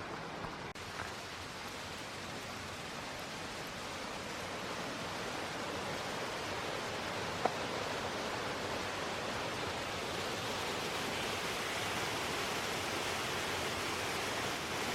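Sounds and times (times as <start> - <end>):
waterfall roaring: 0.0 - 14.9.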